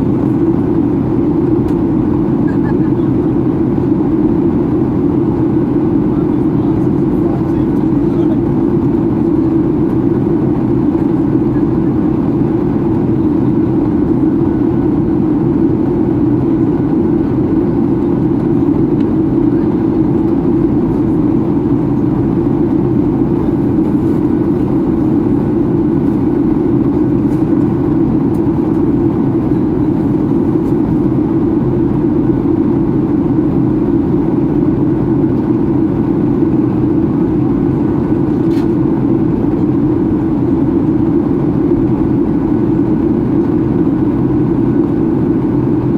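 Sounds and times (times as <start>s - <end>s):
aircraft cabin airflow rush: 0.0s - 45.9s
jet engine hum: 0.0s - 45.9s.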